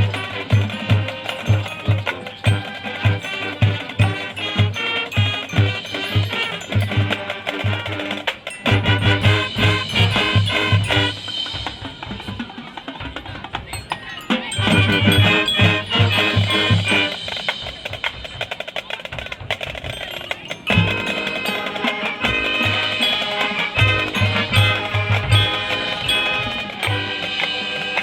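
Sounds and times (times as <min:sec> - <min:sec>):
bass drum and percussion beat: 0:00.0 - 0:28.0
marching band brass melody: 0:00.0 - 0:28.0.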